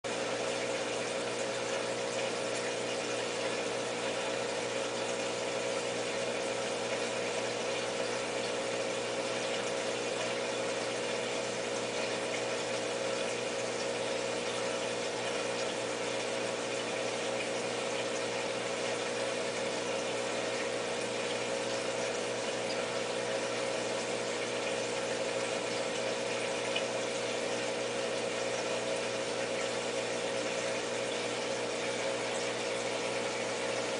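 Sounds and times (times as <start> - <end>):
aquarium pump humming: 0.1 - 33.9
water circulating hiss: 0.1 - 33.9.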